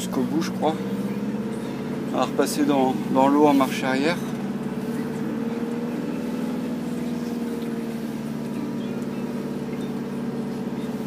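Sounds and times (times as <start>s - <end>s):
vehicle engine whining in reverse: 0.0s - 11.0s.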